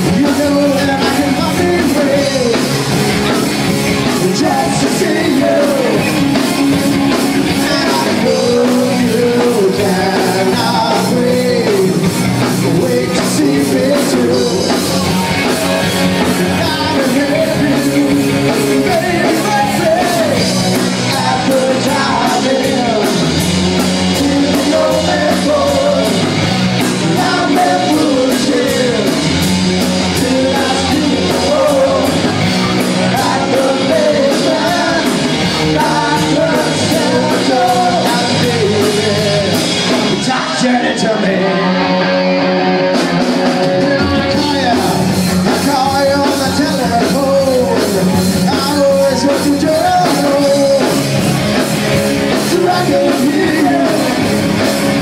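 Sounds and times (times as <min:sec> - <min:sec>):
steady drum beat: 0:00.0 - 0:40.6, 0:43.0 - 0:55.0
person singing: 0:00.0 - 0:42.2, 0:42.8 - 0:51.2, 0:51.9 - 0:55.0
electric guitars: 0:00.0 - 0:55.0.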